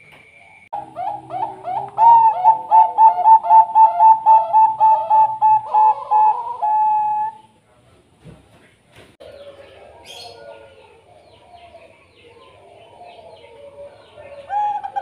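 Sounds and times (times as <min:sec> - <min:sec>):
dove cooing: 0:00.8 - 0:07.6, 0:09.2 - 0:15.0.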